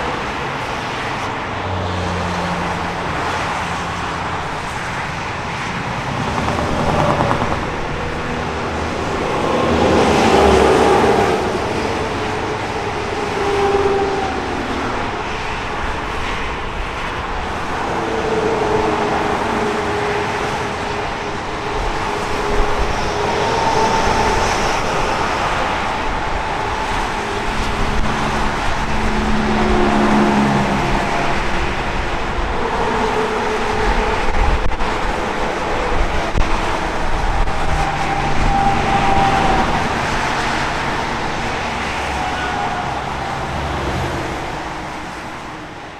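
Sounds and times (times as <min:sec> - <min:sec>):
highway traffic rushing: 0:00.0 - 0:45.9.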